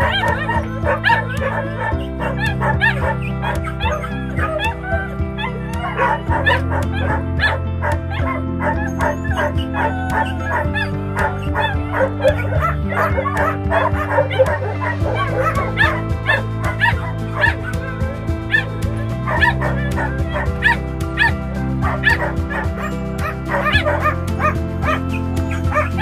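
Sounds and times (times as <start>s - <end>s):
dogs yipping and barking: 0.0s - 26.0s
music with held chords: 0.0s - 26.0s.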